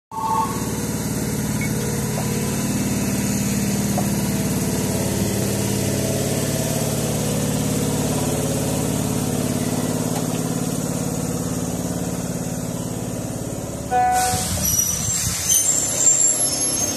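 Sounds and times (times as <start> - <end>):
electric train equipment humming: 0.1 - 16.0.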